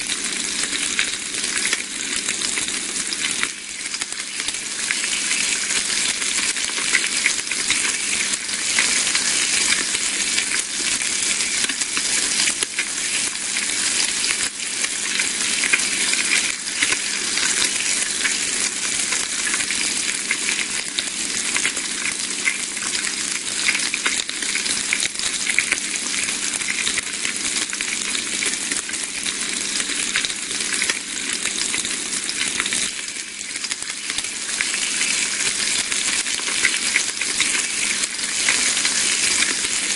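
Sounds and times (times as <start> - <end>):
bacon sizzling in a frying pan: 0.0 - 39.9.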